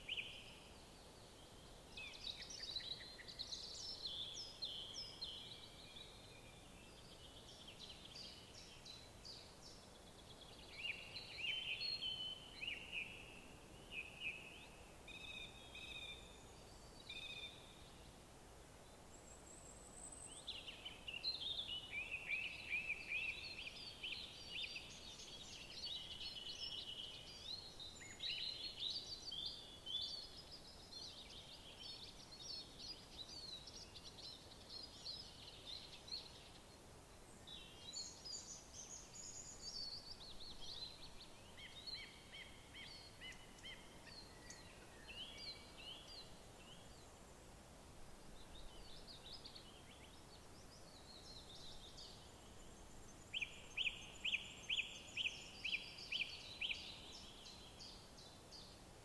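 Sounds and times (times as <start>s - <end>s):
songbirds chirping and trilling: 0.0s - 47.5s, 48.3s - 59.0s.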